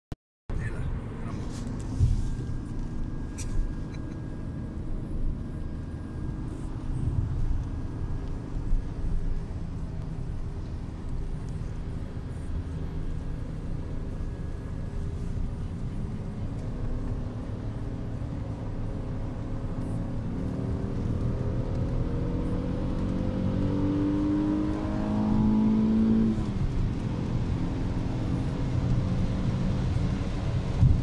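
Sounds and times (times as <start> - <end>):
car engine accelerating: 0.5 - 31.0.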